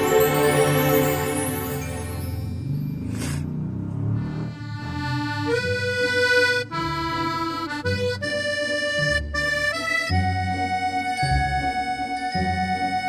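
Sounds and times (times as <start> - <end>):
cute background music: 0.0 - 3.3, 4.6 - 13.0.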